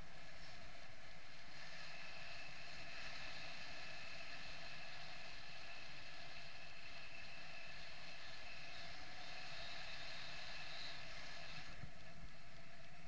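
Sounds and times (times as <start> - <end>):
faint high whistling tones: 0.0 - 13.0
rush of air over camera: 0.0 - 13.0.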